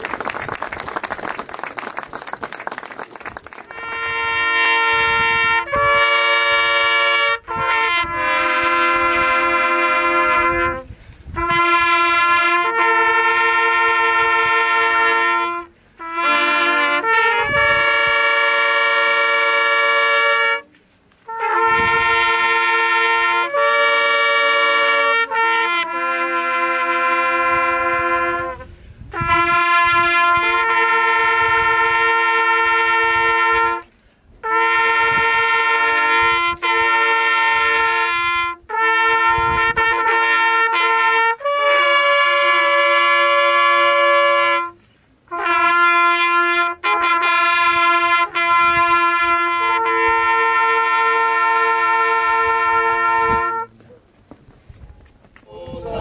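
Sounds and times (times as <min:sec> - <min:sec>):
brass instruments playing chords: 0:03.7 - 0:53.8.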